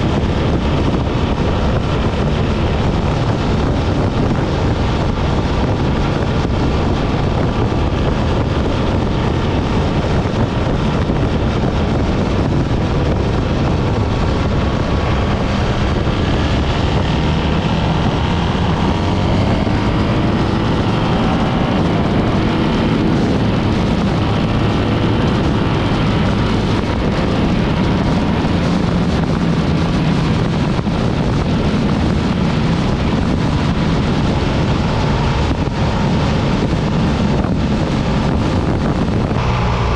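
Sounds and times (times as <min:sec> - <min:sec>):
motorcycle engine: 0:00.0 - 0:39.9
road noise: 0:00.0 - 0:39.9
wind rush on microphone: 0:00.0 - 0:39.9.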